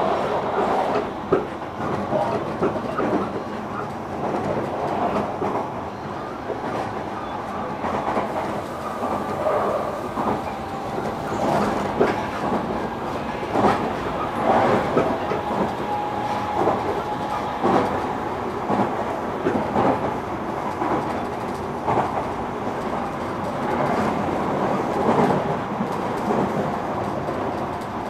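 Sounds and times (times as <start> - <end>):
train rolling noise: 0.0 - 28.0.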